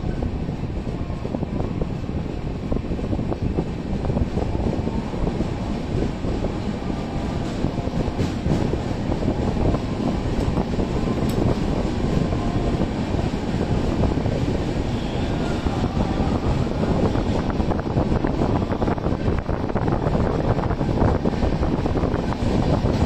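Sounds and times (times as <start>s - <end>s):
train wheels rumbling and rattling: 0.0s - 23.0s.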